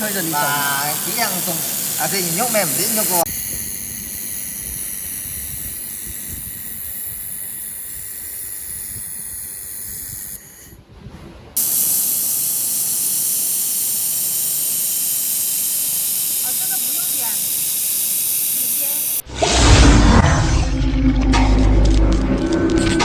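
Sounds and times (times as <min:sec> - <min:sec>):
laser welder hiss and whine: 0:00.0 - 0:10.8, 0:11.6 - 0:19.3.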